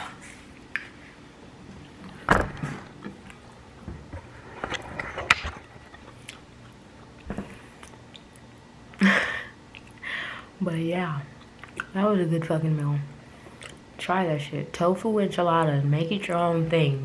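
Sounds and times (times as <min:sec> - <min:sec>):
low steady room hum: 0:00.0 - 0:17.0.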